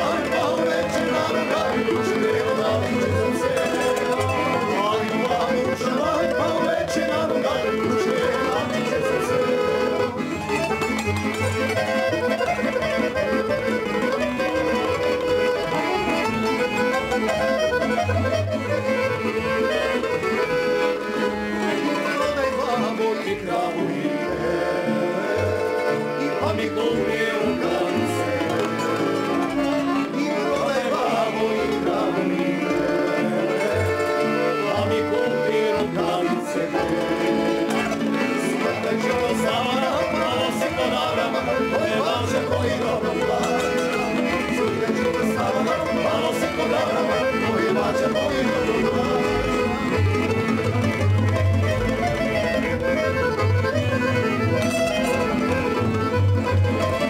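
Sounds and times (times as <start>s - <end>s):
accordion: 0.0s - 57.0s
double bass: 0.0s - 57.0s
plucked string instruments: 0.0s - 57.0s.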